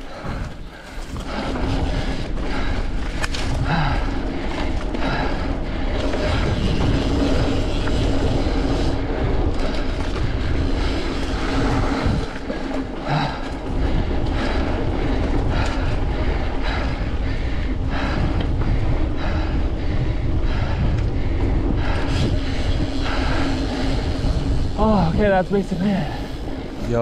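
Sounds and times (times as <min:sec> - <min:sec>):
bike knocking and rattling: 0:00.0 - 0:27.0
wind and tyres rushing: 0:00.0 - 0:27.0.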